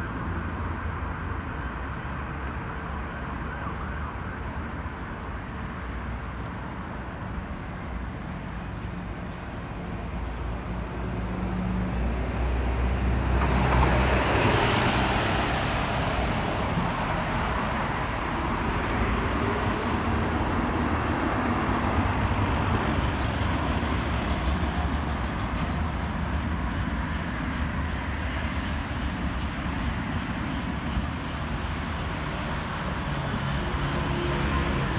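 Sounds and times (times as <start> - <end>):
road noise hiss: 0.0 - 34.9
vehicle engine rumble passing: 0.0 - 34.9.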